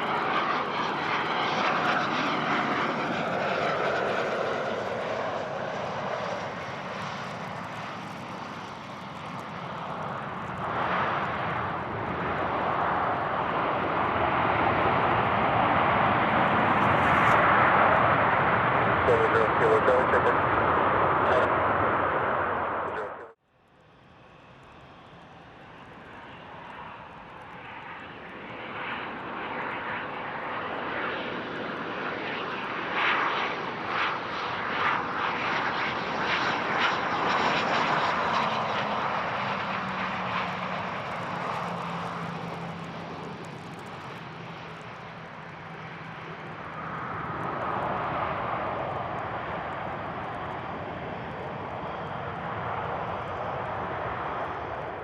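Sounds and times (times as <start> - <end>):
jet engine noise: 0.0 - 55.0.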